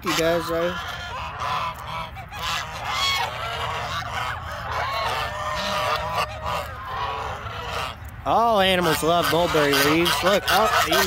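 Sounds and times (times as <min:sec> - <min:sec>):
geese honking: 0:00.0 - 0:11.0
poultry calling: 0:00.0 - 0:11.0.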